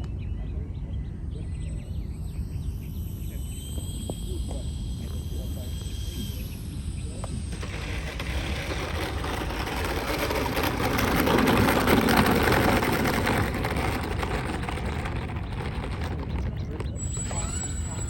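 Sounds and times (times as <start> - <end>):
model airplane motors whining: 2.6 - 18.0.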